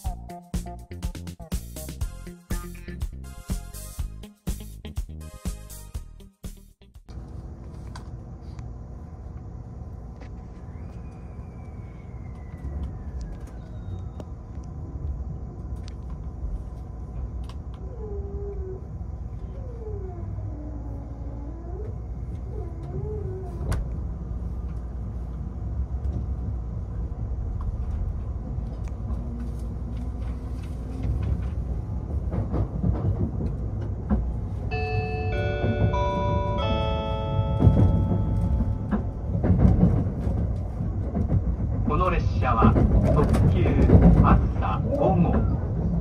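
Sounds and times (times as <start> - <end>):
train rumbling: 7.1 - 46.0.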